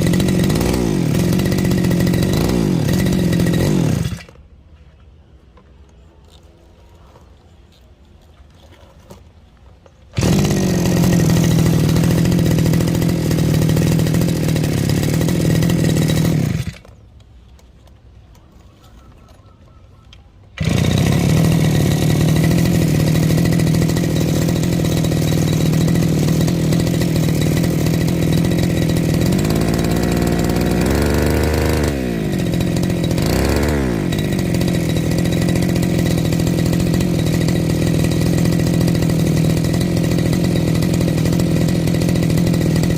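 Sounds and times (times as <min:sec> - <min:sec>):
brush cutter engine running: 0:00.0 - 0:04.5, 0:10.0 - 0:17.6, 0:20.4 - 0:42.9.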